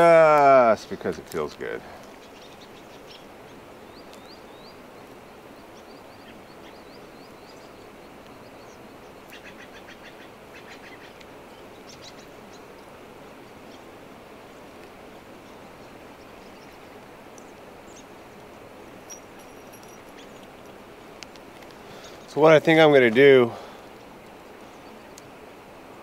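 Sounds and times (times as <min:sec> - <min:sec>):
steady outdoor hiss: 0:00.0 - 0:26.0
small birds chirping: 0:00.3 - 0:25.4.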